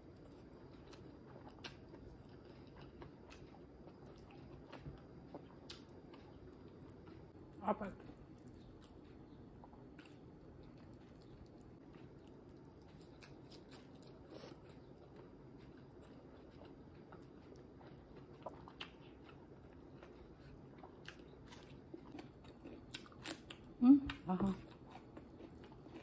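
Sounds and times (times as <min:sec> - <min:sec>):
faint chewing: 0:00.0 - 0:26.0.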